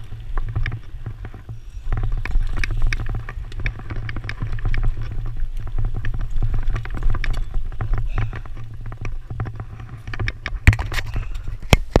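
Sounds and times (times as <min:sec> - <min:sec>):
bike rattling and clicking: 0:00.0 - 0:12.0
wind rumble on microphone: 0:00.0 - 0:12.0.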